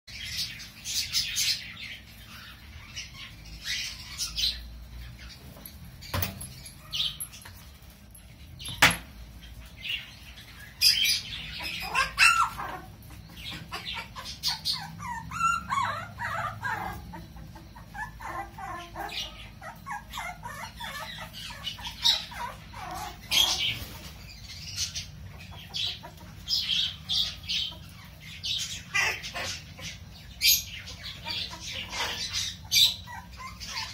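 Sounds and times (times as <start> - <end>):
puppies squeaking and yipping: 0.2 - 33.9.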